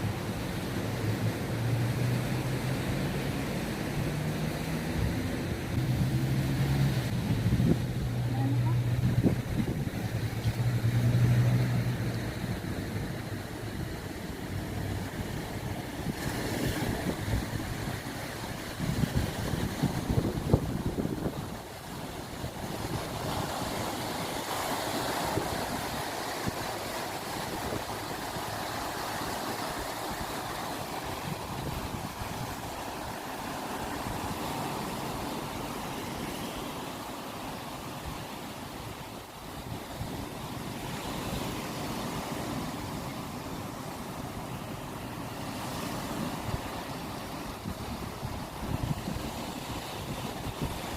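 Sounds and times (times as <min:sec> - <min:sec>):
ocean surf washing in: 0:00.0 - 0:50.9
wind rumbling on microphone: 0:00.0 - 0:50.9.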